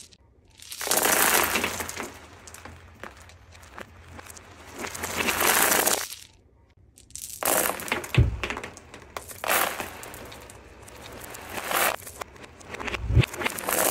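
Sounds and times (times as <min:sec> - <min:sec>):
reversed beads rattling on floor: 0:00.0 - 0:13.9.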